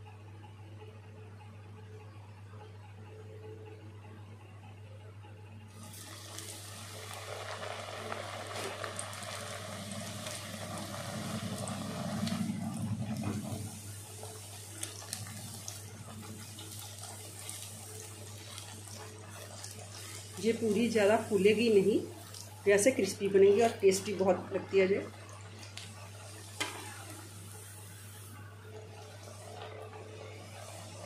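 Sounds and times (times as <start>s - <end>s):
dough sizzling in hot oil: 5.7s - 31.0s.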